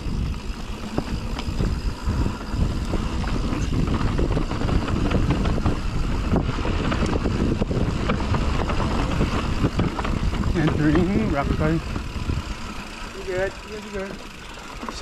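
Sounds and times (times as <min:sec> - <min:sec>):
wind on microphone: 0:00.0 - 0:12.9
bike rattling and clicking: 0:00.0 - 0:15.0
tyres rumbling on dirt: 0:00.0 - 0:15.0.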